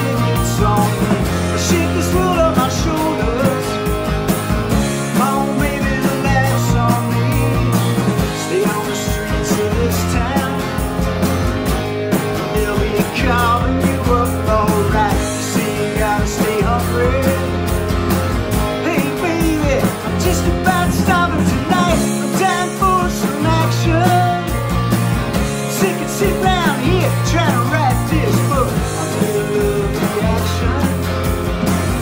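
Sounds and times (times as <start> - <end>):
man singing lead vocal: 0.0 - 4.0, 4.8 - 11.0, 12.4 - 17.6, 18.7 - 24.6, 25.4 - 32.0
drum kit beat: 0.0 - 32.0
electric bass: 0.0 - 32.0
electric guitars: 0.0 - 32.0.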